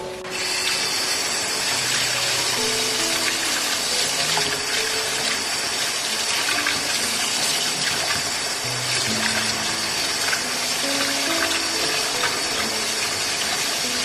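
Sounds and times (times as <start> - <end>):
soft background music: 0.0 - 14.0
tap water running into sink: 0.3 - 14.0.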